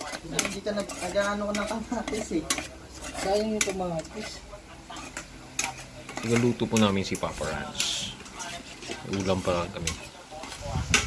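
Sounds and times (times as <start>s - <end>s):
metal spoon scraping a pot: 0.0s - 11.0s.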